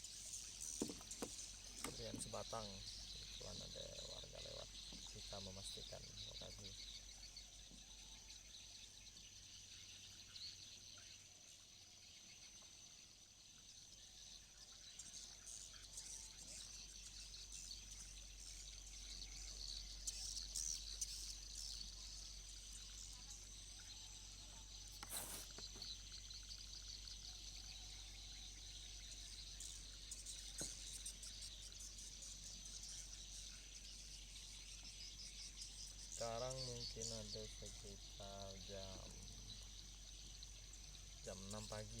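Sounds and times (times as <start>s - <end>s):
bird chirps: 0.0s - 11.2s, 14.6s - 42.0s
insects buzzing: 0.0s - 42.0s.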